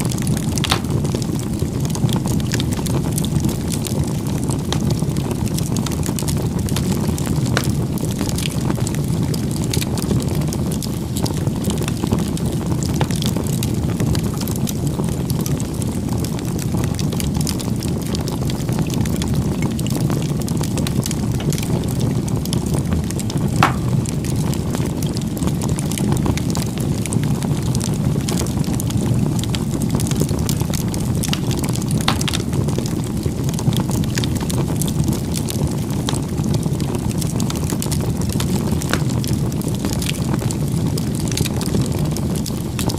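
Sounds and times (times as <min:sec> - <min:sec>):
fire popping: 0:00.0 - 0:42.9
wood fire rumbling and crackling: 0:00.0 - 0:42.9.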